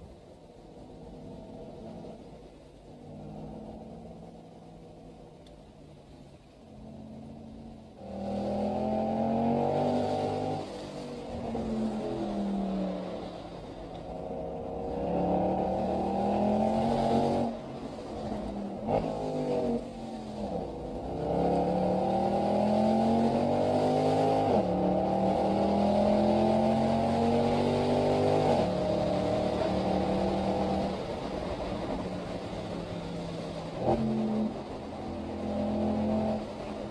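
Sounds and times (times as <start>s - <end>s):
car engine accelerating through gears: 6.7s - 36.9s.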